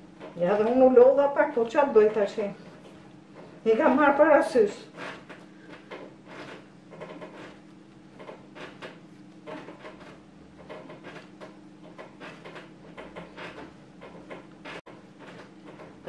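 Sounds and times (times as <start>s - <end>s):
dough kneaded on wooden table: 0.0s - 16.0s
steady low hum: 0.0s - 16.0s.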